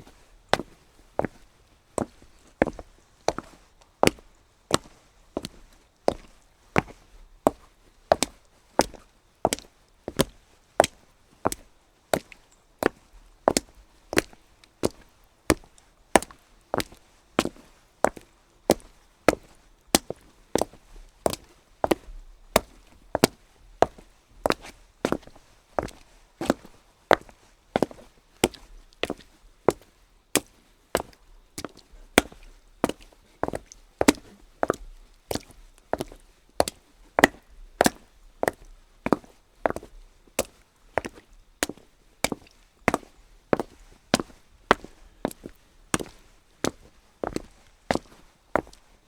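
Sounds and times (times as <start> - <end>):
footsteps on wet cobblestones: 2.0 - 48.9.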